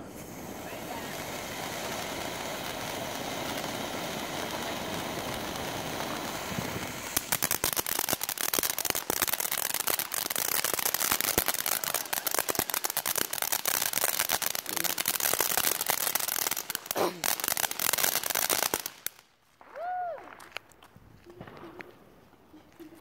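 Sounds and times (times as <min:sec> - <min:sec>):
firework hissing and crackling: 0:00.0 - 0:20.6.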